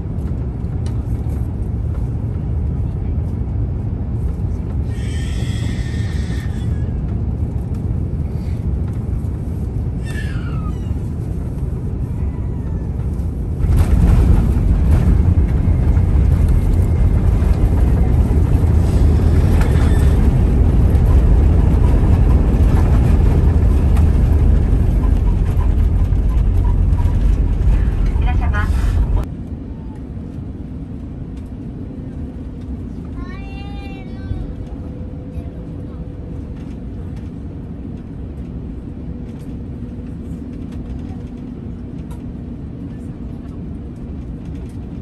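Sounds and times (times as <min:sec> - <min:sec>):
aircraft cabin engine rumble: 0:00.0 - 0:45.0.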